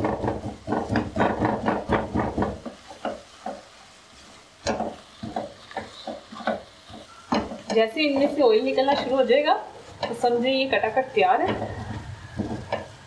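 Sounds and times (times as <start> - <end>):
eggs sizzling: 0.0 - 13.0
spatula scraping a wok: 0.0 - 13.0.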